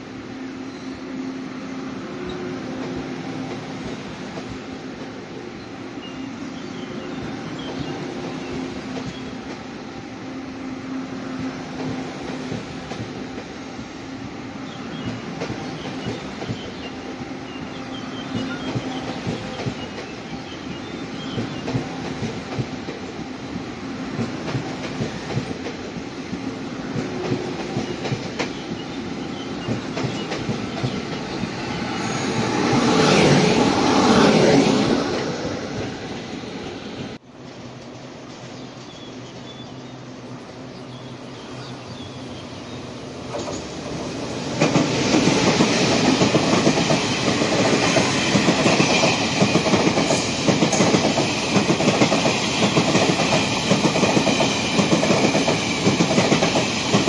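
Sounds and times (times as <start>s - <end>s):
train running hum: 0.0s - 57.0s.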